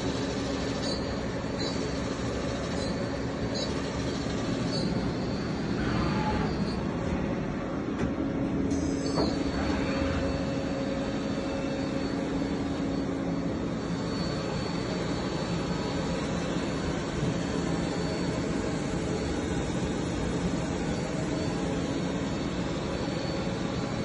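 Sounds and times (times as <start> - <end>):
machinery hum and rumble: 0.0 - 24.0.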